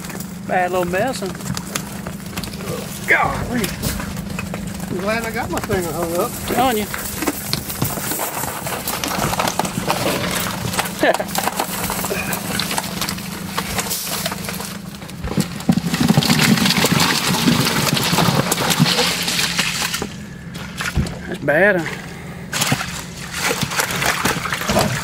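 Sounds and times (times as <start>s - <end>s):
fish flopping in a boat: 0.0s - 25.0s
idling motor hum: 0.0s - 25.0s.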